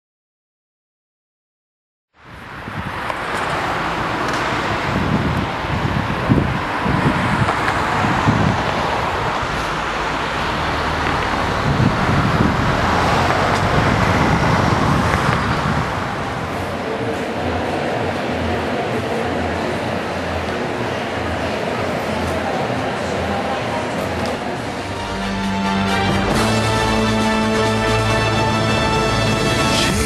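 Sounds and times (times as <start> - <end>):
road traffic noise: 2.2 - 30.0.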